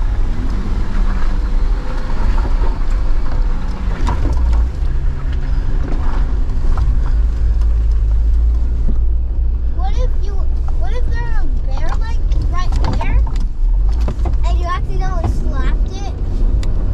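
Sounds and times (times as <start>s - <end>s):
car engine running low: 0.0s - 16.9s.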